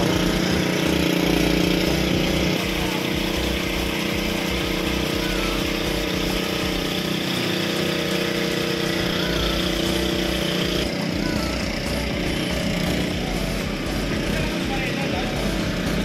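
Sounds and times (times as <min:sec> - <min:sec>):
motor hum: 0:00.0 - 0:16.0.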